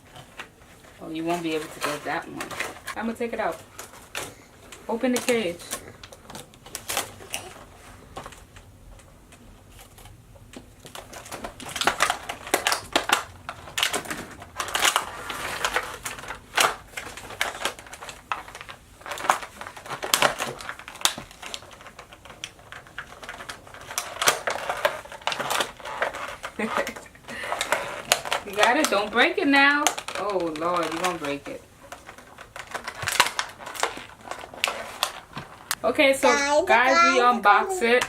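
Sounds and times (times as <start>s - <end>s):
plastic packaging clicks and crinkles: 0.0s - 38.0s.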